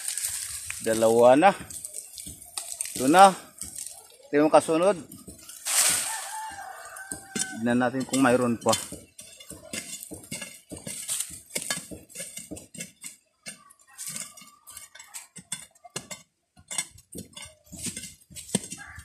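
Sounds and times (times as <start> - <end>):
digging bar scraping stony soil: 0.0 - 4.0, 4.6 - 19.0
loose earth and grit rattling: 0.0 - 19.0.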